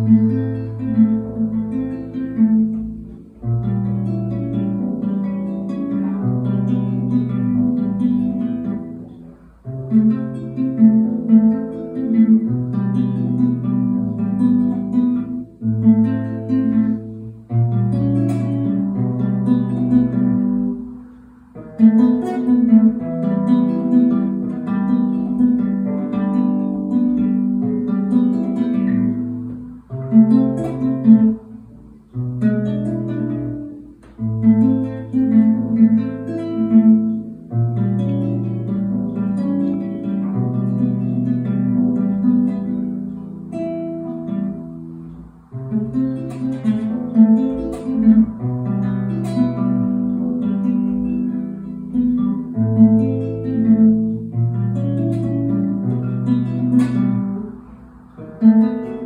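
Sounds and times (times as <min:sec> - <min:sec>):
classical guitar fingerstyle: 0:00.0 - 0:59.0.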